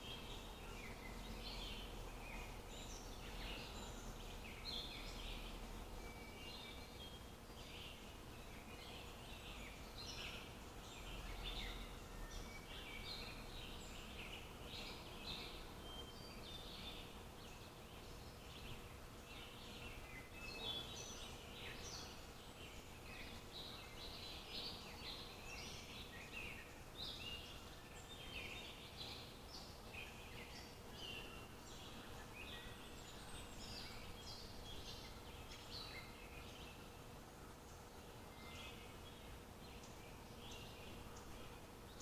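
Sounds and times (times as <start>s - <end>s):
birds chirping and singing: 0.0s - 42.0s
faint steady hiss: 0.0s - 42.0s.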